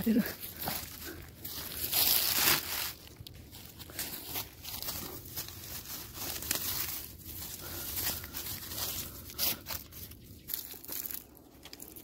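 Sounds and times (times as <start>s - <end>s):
dry leaves and twigs rustling: 0.0s - 12.0s.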